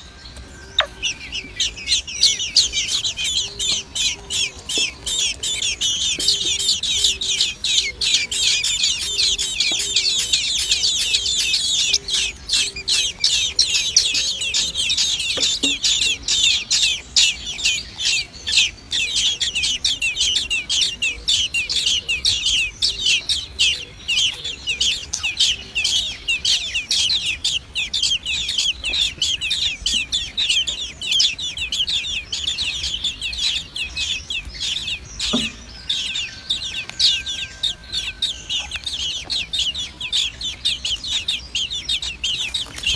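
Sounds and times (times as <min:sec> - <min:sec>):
nestling birds cheeping: 0:00.0 - 0:42.9.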